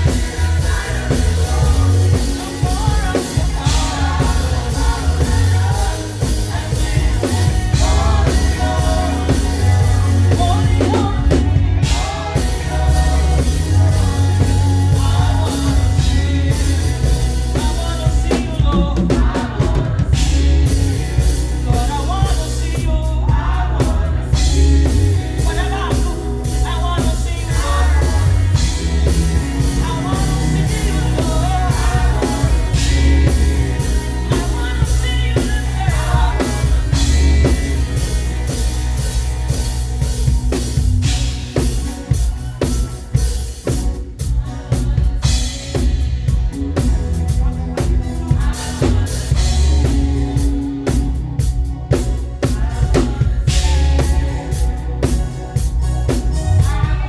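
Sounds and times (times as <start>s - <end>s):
drum kit: 0.0s - 57.0s
heavy bass line: 0.0s - 57.0s
live band playing praise music: 0.0s - 57.0s
voices singing: 0.0s - 57.0s.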